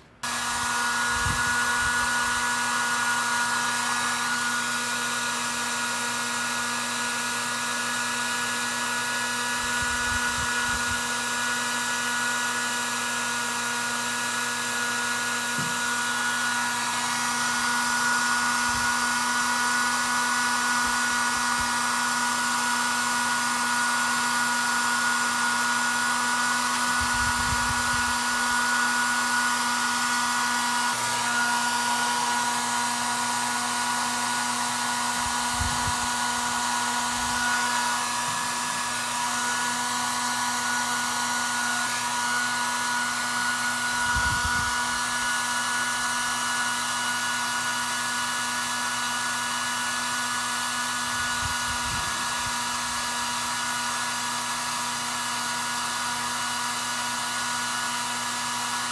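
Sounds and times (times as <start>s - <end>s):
hot-air blower whining: 0.0s - 58.9s.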